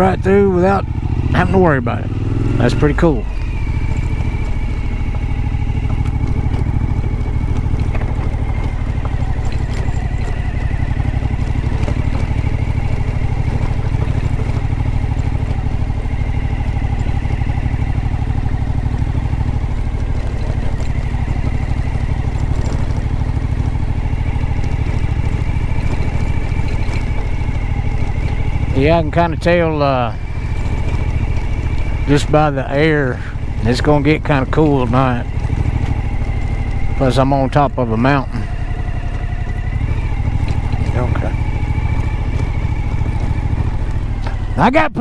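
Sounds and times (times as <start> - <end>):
motorcycle engine running steadily: 0.0 - 45.0.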